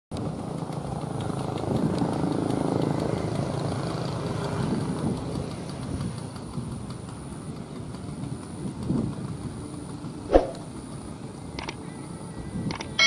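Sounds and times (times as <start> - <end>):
scooter engine passing by: 0.2 - 11.3.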